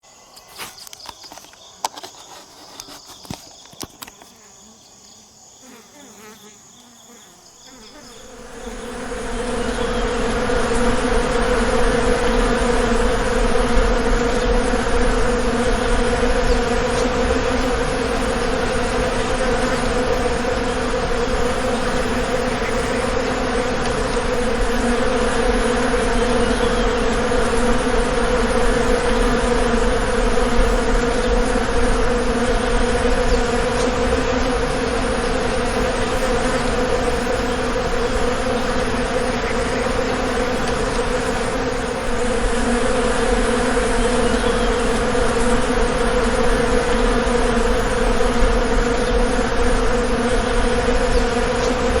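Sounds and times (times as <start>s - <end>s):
bees buzzing: 0.1s - 52.0s.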